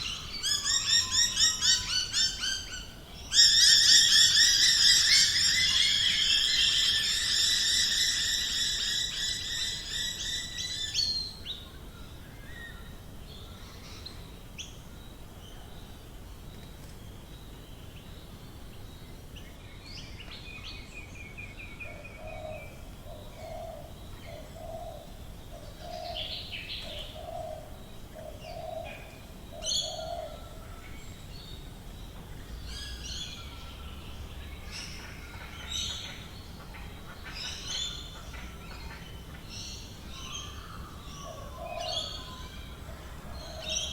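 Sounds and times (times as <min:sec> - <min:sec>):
dense bird chorus: 0:00.0 - 0:43.9.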